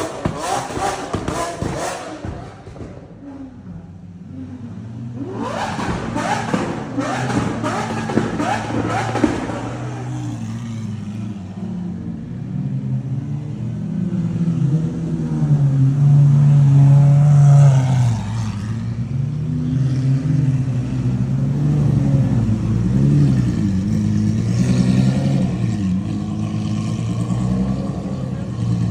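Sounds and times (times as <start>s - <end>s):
sports car engine revving: 0.0s - 28.9s.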